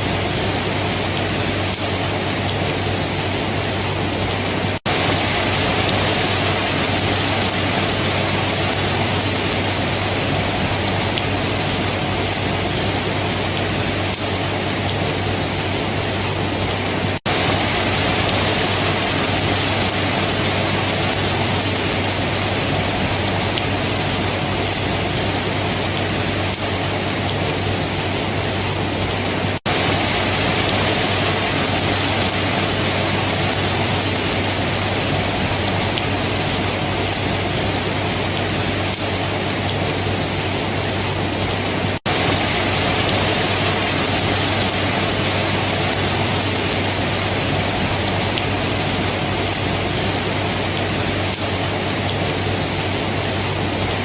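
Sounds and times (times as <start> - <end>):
dense rain hissing: 0.0 - 54.0.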